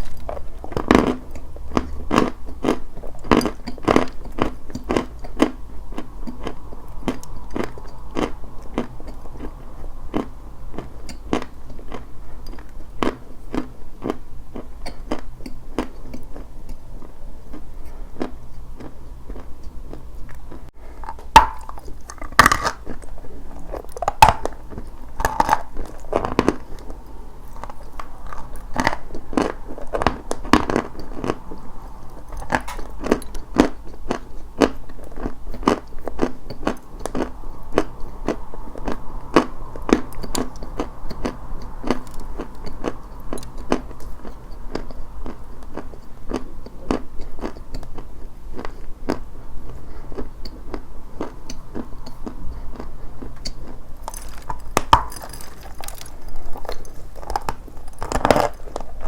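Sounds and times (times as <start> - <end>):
chalk chewing crunches: 0.0 - 59.0.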